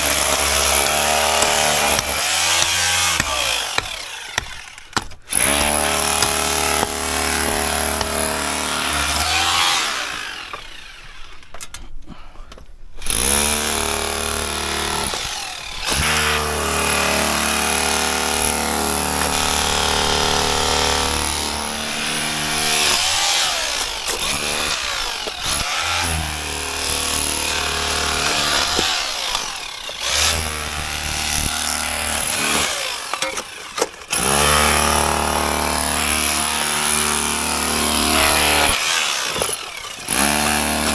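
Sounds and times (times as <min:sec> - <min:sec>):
power tool motor running: 0:00.0 - 0:11.4, 0:13.1 - 0:40.9.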